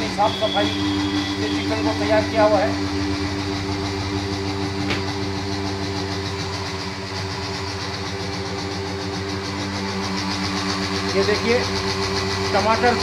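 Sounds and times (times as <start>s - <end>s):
mixer grinder motor humming: 0.0s - 13.0s.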